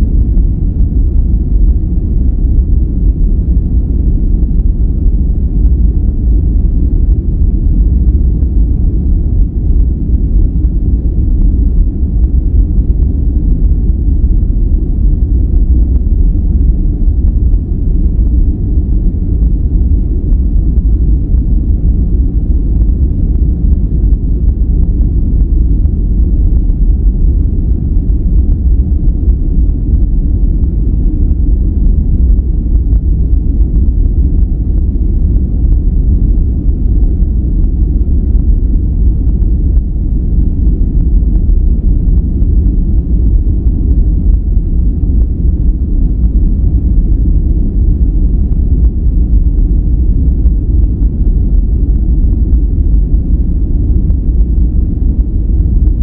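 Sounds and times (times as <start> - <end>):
deep rumbling noise: 0.0 - 56.0.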